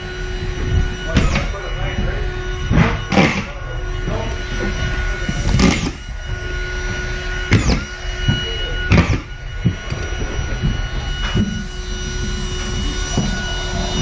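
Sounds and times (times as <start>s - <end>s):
mechanical hum with tones: 0.0s - 14.0s.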